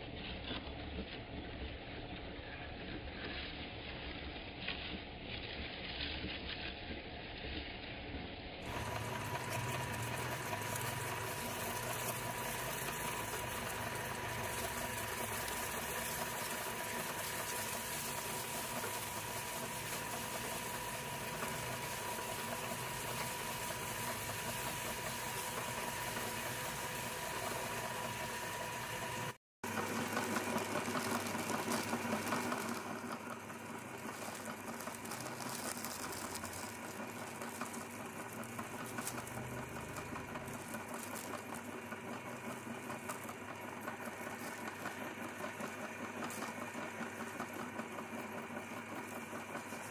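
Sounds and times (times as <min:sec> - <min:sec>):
meat grinder crushing chips: 0:00.0 - 0:49.9.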